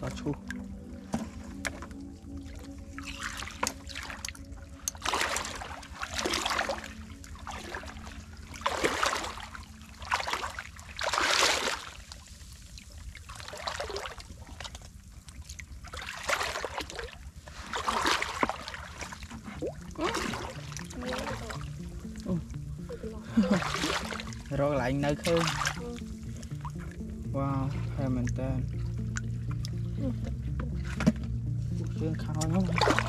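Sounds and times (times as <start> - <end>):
person wading through muddy water: 0.0 - 33.0.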